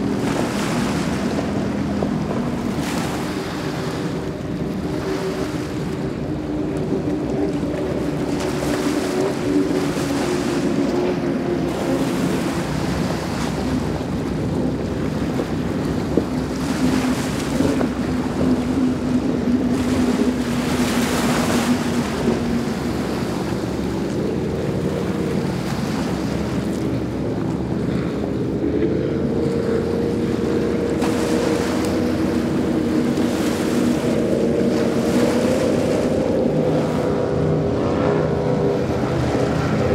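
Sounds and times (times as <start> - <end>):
boat engines droning: 0.0 - 39.9
rushing water: 0.0 - 39.9.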